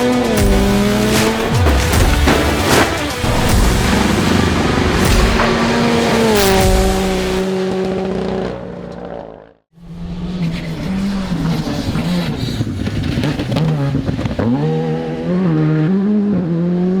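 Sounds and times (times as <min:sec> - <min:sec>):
rally car engine at speed: 0:00.0 - 0:17.0.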